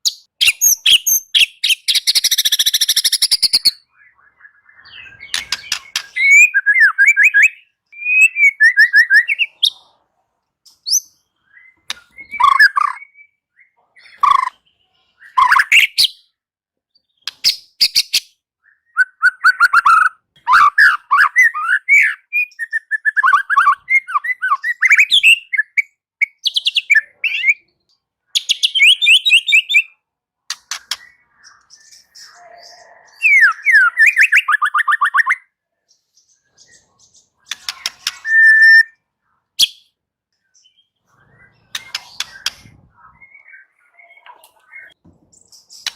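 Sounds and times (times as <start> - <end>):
bird singing trills and whistles: 0.0 - 9.9, 10.7 - 45.9.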